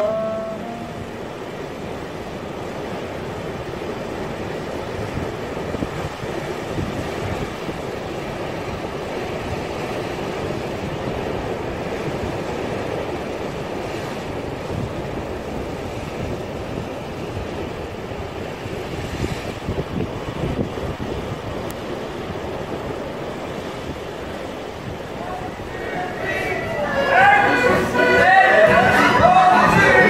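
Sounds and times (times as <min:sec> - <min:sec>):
sea: 0:00.0 - 0:30.0
wind: 0:00.0 - 0:30.0.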